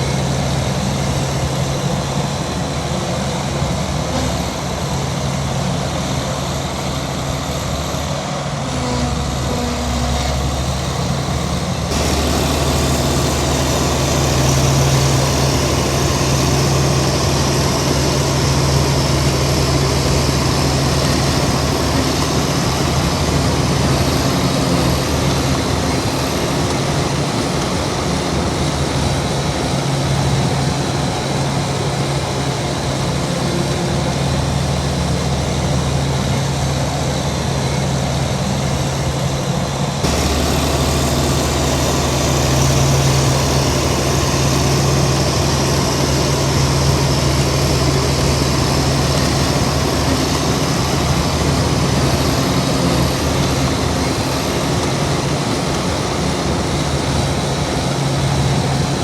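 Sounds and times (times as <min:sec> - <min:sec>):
diesel earthmoving machinery running: 0:00.0 - 0:59.0.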